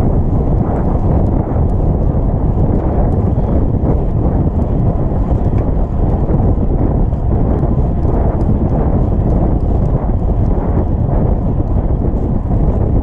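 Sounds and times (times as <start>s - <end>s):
horses galloping: 0.0s - 13.0s.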